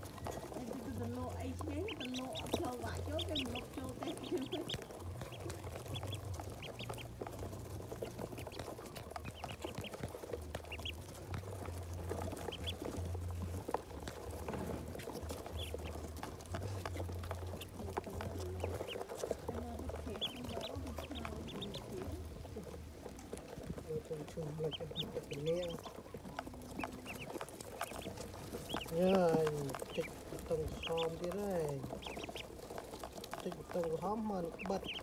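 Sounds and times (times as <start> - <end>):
ducklings peeping: 0.0 - 35.0.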